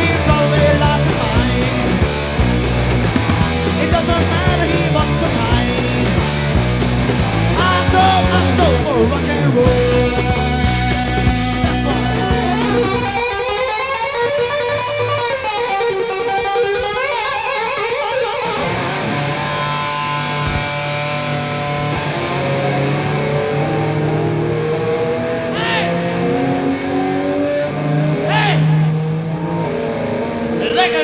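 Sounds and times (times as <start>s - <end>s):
electric guitar lead: 0.0s - 31.0s
live rock band: 0.0s - 31.0s.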